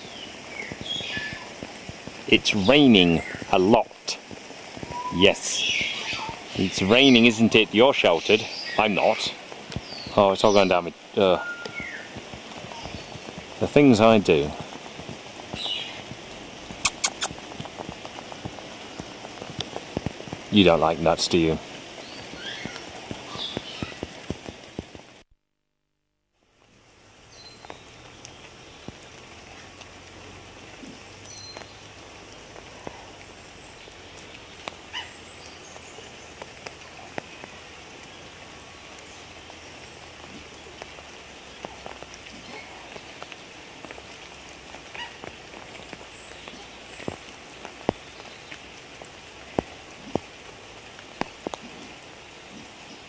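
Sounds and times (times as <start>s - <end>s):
steady rain falling: 0.0s - 25.3s, 26.1s - 53.0s.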